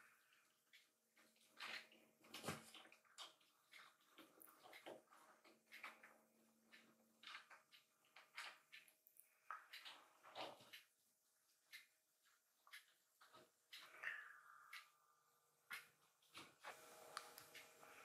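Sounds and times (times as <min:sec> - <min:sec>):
wet-sounding ticks: 0:00.0 - 0:16.5.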